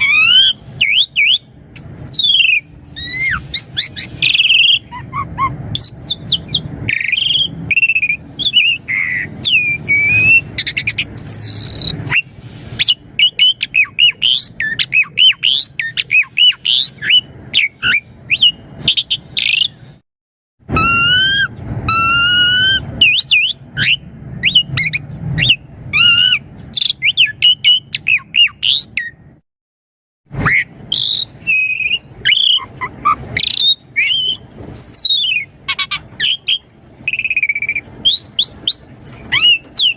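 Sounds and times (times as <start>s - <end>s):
starling singing: 0.0s - 19.9s, 20.7s - 29.3s, 30.4s - 39.9s.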